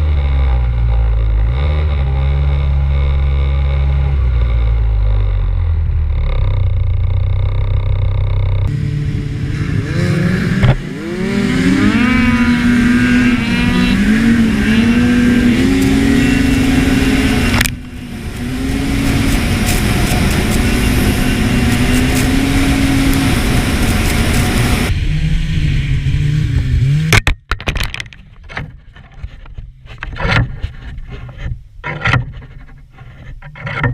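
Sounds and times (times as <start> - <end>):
snowmobile engine revving: 0.0 - 27.2.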